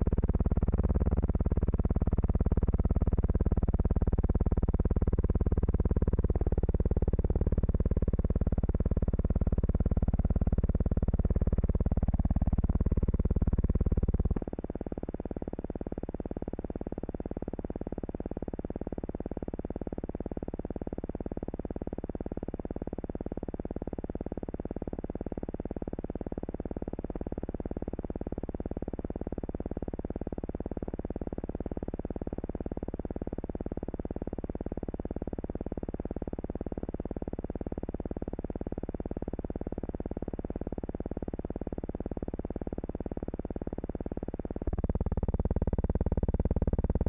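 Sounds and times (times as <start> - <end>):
buzzing hum with rasp: 0.0 - 47.0.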